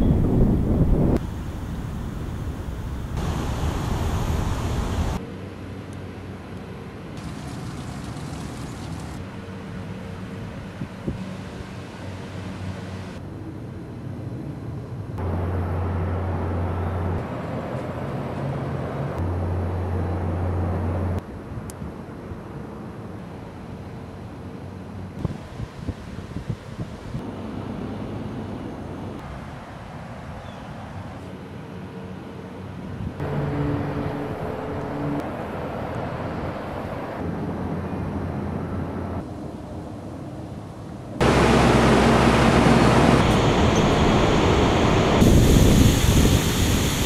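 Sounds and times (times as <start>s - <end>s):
low rumble of distant traffic: 0.0s - 47.0s
outdoor ambient noise: 0.0s - 47.0s.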